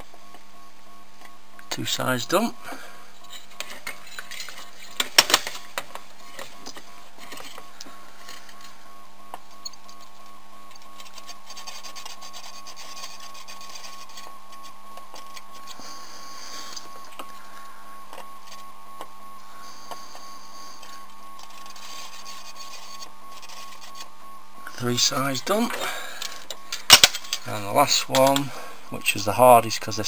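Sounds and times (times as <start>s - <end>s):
electrical hum and whine: 0.0s - 30.0s.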